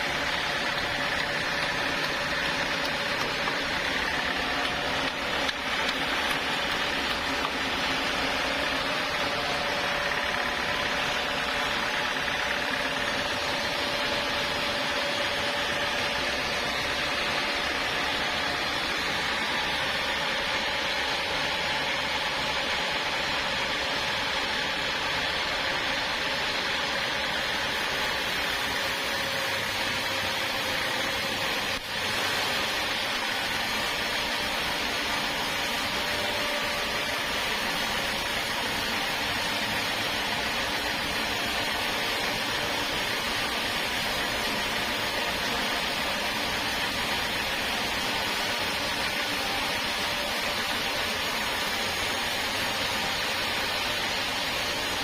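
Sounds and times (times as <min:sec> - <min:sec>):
sawmill machinery hissing and humming: 0:00.0 - 0:55.0.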